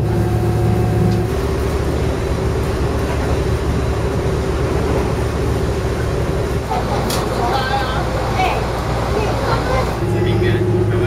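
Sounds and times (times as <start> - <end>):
diesel railcar engine running: 0.0 - 11.0.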